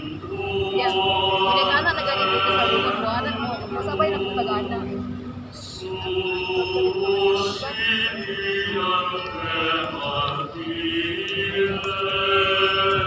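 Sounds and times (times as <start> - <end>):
voices singing a hymn: 0.0 - 13.0.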